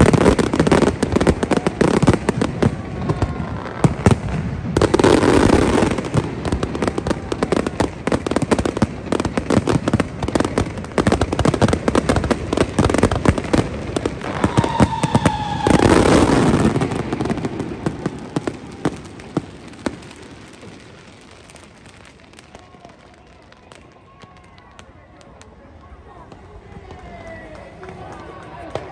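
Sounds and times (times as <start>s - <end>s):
fireworks crackling and banging: 0.0s - 28.9s.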